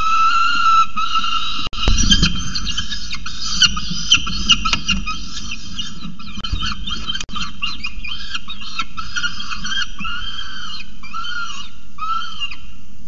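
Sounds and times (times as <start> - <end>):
falcon chattering calls: 0.0 - 12.7
falcon wailing calls: 0.0 - 12.7.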